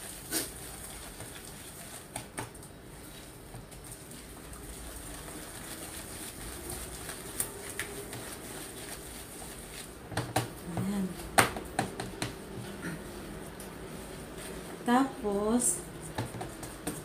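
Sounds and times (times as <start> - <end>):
whisk scraping batter in bowl: 0.0 - 17.0.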